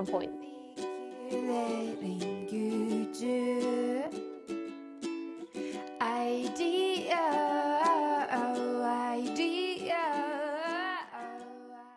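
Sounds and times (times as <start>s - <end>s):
person singing: 0.0s - 4.6s, 5.4s - 11.9s
plucked ukulele: 0.0s - 11.9s.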